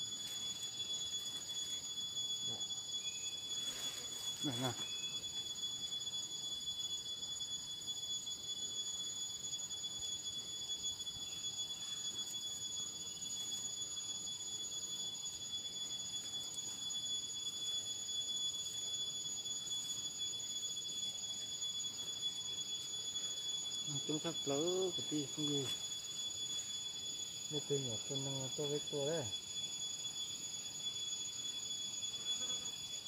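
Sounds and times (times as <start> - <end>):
cicadas droning: 0.0 - 33.0.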